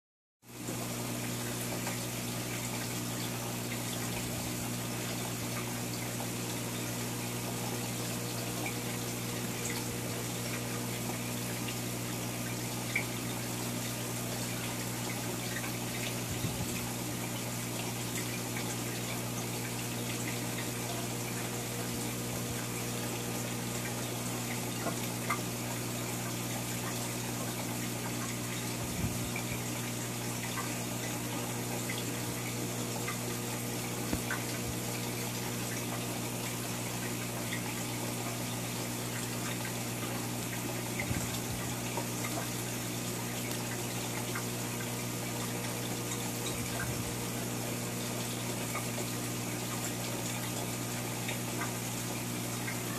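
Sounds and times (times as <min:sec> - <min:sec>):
rushing aquarium water: 0:00.4 - 0:52.9
low pump hum: 0:00.5 - 0:52.9.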